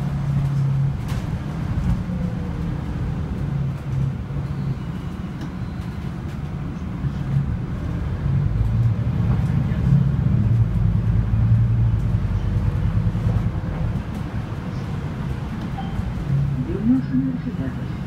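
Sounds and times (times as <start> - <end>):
bus drivetrain drone: 0.0 - 18.0
road rumble: 0.0 - 18.0.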